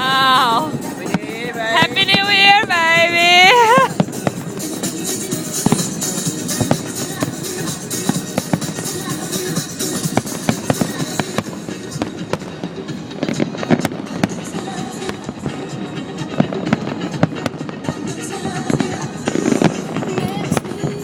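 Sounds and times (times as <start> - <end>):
fireworks banging and crackling: 0.0 - 21.0
music playing: 0.0 - 21.0.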